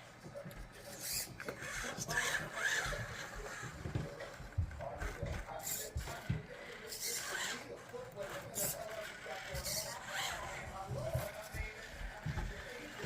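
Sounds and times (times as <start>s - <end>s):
toy car motor and gear noise: 0.8s - 13.0s.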